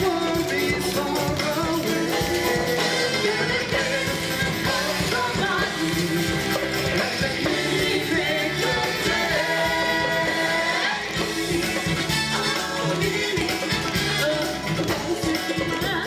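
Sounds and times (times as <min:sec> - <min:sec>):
upbeat stage show music: 0:00.0 - 0:16.0.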